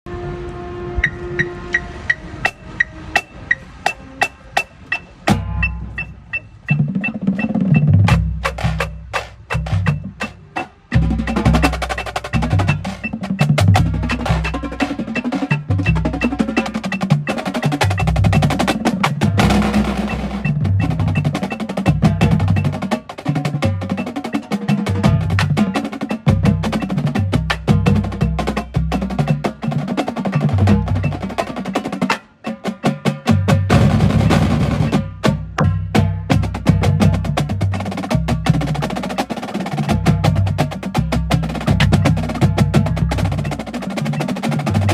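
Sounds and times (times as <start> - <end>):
tabla playing: 1.0 - 44.9.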